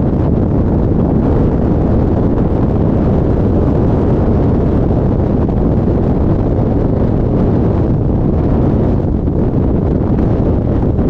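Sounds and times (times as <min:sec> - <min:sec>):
aircraft engine and propeller drone: 0:00.0 - 0:11.0
wind buffeting microphone: 0:00.0 - 0:11.0.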